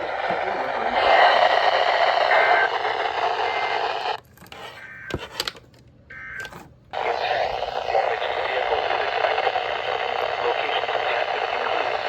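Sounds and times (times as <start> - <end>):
radio hiss and static: 0.0 - 5.3, 6.1 - 12.0.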